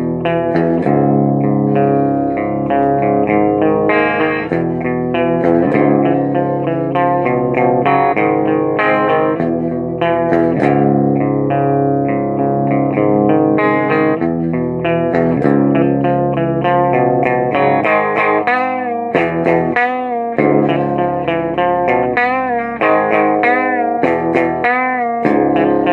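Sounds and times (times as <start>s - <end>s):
electric guitar playing: 0.0s - 25.9s.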